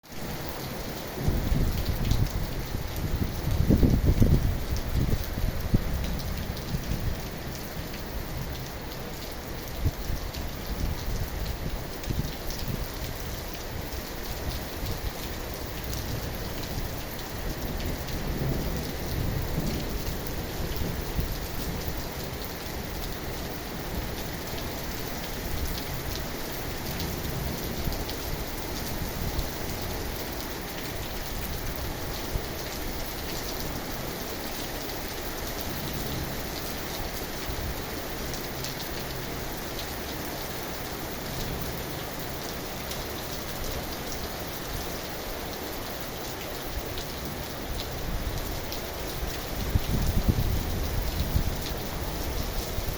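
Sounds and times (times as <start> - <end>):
rain pattering on a surface: 0.0 - 52.9.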